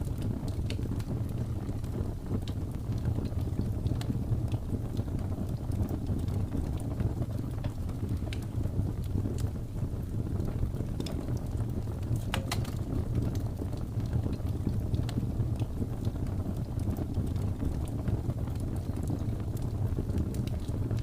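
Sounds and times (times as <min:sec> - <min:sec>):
low rumble of wind: 0:00.0 - 0:21.0
wood fire crackling: 0:00.0 - 0:21.0.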